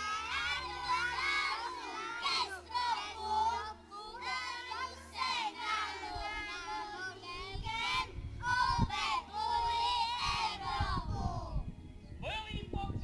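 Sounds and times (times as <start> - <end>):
children singing: 0.0 - 11.5.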